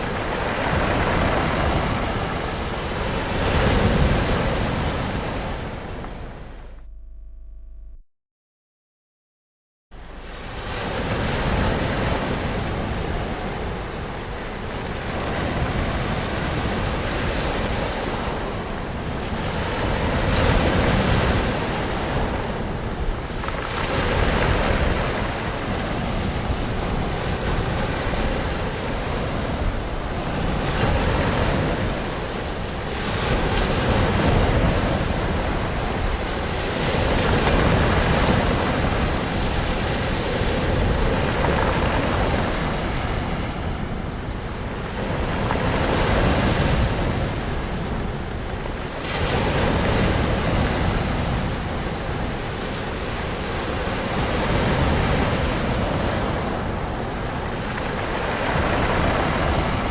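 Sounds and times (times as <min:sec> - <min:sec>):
waves breaking: 0:00.0 - 0:06.8, 0:10.0 - 0:59.9
wind noise: 0:10.0 - 0:59.9.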